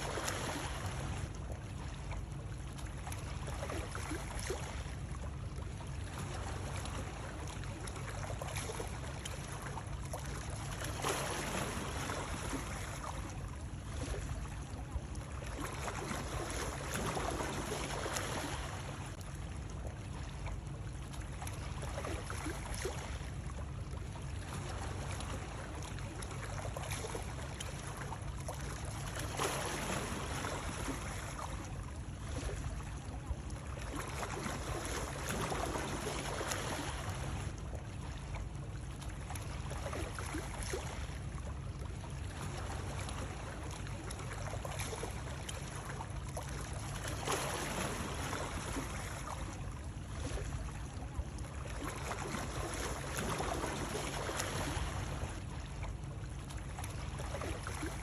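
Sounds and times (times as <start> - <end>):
constant low rumble: 0.0 - 58.0.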